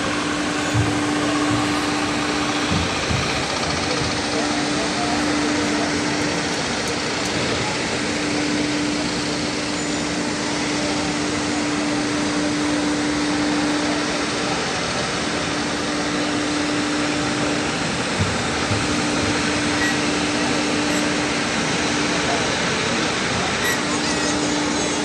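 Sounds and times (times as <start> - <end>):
open-air background noise: 0.0 - 25.0.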